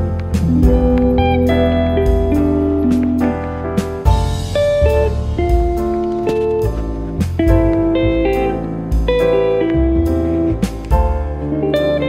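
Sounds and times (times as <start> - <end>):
guitar melody over bass line: 0.0 - 12.0.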